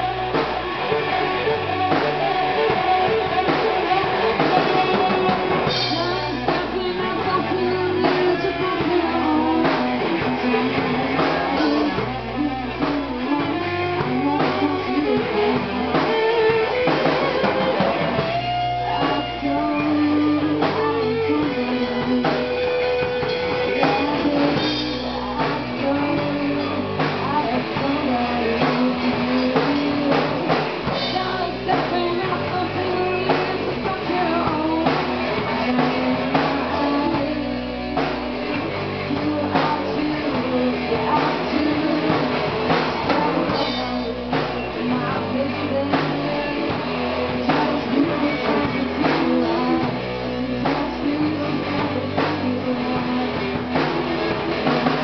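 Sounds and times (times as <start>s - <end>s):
drum kit: 0.0s - 55.0s
electric bass: 0.0s - 55.0s
electric guitars: 0.0s - 55.0s
woman singing: 0.0s - 55.0s.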